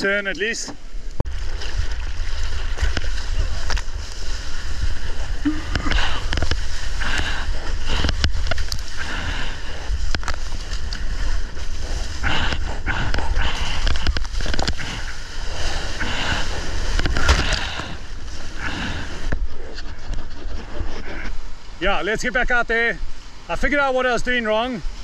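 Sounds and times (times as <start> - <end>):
low rumble of water and wind: 0.0 - 25.0
water splashing around surfboard: 1.2 - 21.8.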